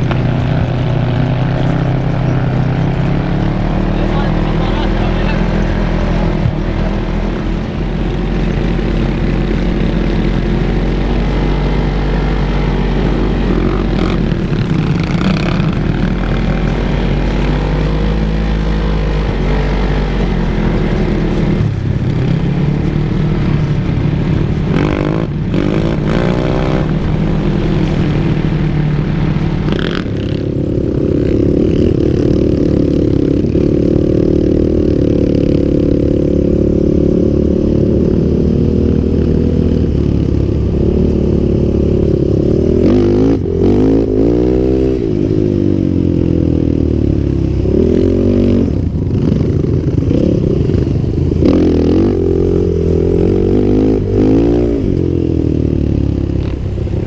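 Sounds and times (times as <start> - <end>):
off-road vehicle engine revving: 0.0 - 57.0
rushing noise: 0.0 - 57.0.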